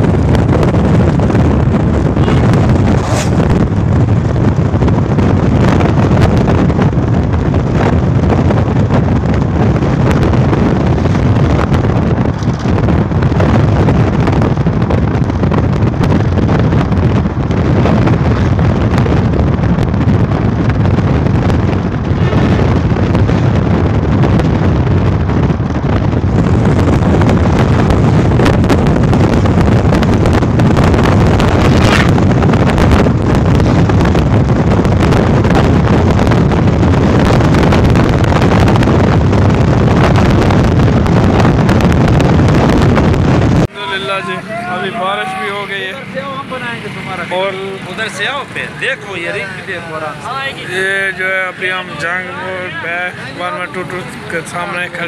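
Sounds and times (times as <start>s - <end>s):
moving vehicle running noise: 0.0s - 55.0s
wind buffeting microphone: 0.0s - 55.0s.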